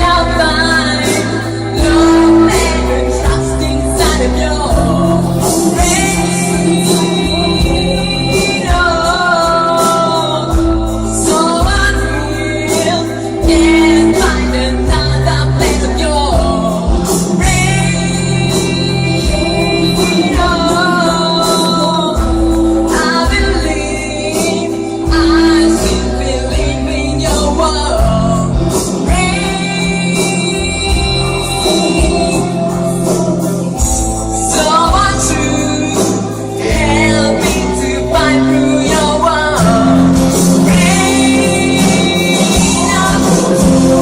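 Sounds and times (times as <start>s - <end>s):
bass line: 0.0s - 44.0s
drums: 0.0s - 44.0s
person singing with vibrato: 0.0s - 44.0s.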